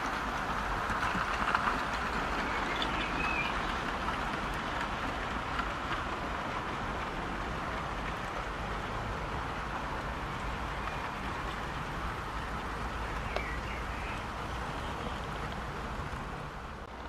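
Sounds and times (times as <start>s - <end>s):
model train rolling on track: 0.0s - 17.0s.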